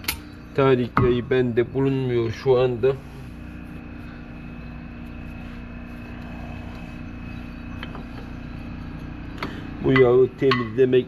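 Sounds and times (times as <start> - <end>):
faint high whine: 0.0 - 11.0
mechanical hum: 0.0 - 11.0.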